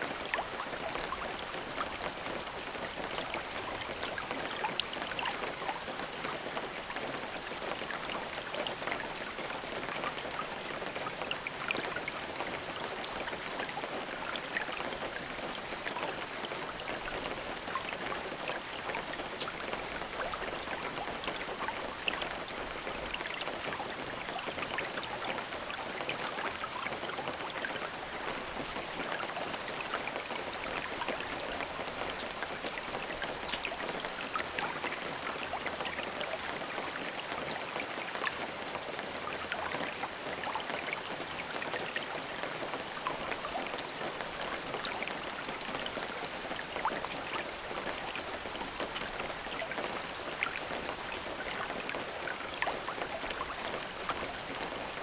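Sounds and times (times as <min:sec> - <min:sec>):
raindrops pattering: 0:00.0 - 0:55.0
steady rain: 0:00.0 - 0:55.0.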